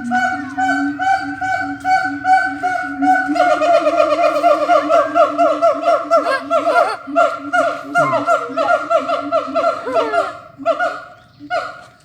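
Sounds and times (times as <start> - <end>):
apes hooting: 0.0 - 10.6.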